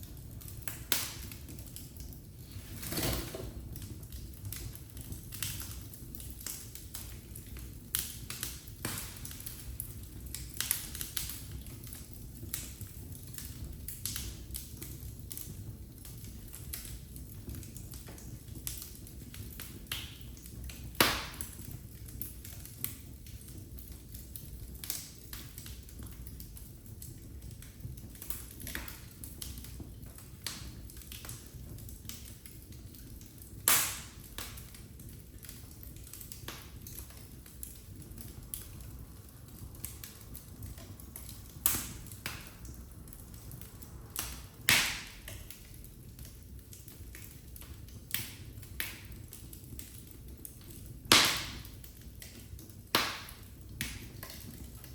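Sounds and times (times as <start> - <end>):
low flame noise: 0.0 - 54.9
sharp fire snaps: 0.0 - 54.9
wood fire crackling: 0.0 - 54.9.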